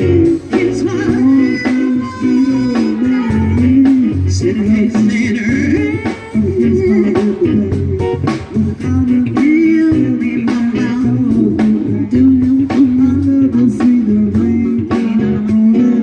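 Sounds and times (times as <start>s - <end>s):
bass: 0.0s - 16.0s
blues guitar lead: 0.0s - 16.0s
steady beat: 0.0s - 16.0s.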